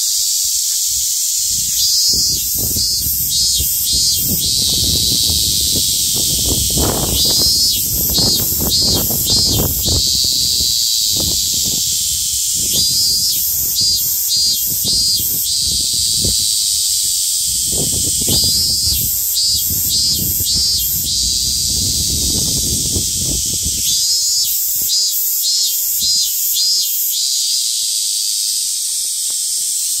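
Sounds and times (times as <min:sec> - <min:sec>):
cicada chorus buzzing: 0:00.0 - 0:30.0
pulsed cicada call: 0:00.0 - 0:30.0.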